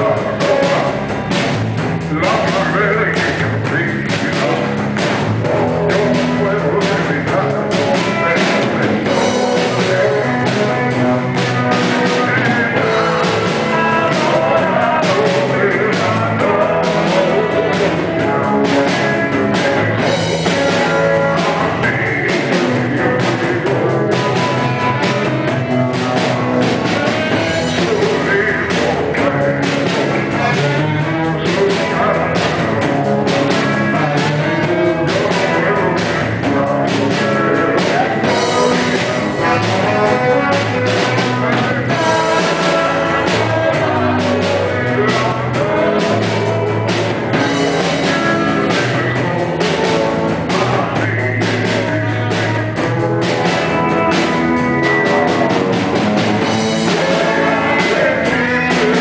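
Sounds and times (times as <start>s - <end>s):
live rock and roll band: 0.0s - 59.0s
saxophone: 5.4s - 59.0s.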